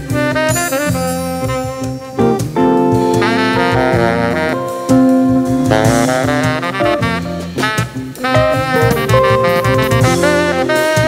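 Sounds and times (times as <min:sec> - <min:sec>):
band accompaniment: 0:00.0 - 0:11.0
tenor saxophone jazz line: 0:00.0 - 0:11.0.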